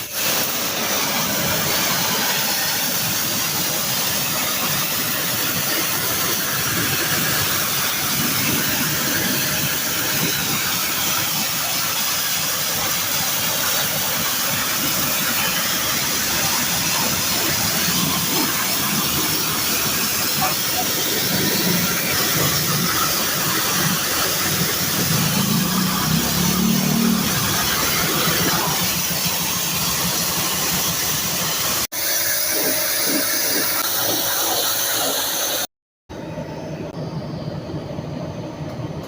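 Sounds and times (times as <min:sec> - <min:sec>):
pressure washer spraying: 0:00.0 - 0:35.7.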